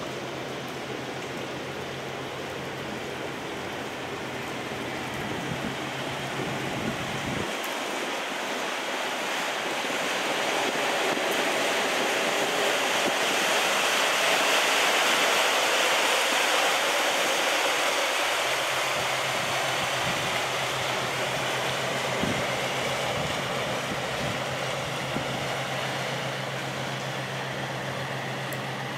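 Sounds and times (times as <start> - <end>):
ship engine hum: 0.0 - 28.9
water rushing along ship hull: 0.0 - 28.9.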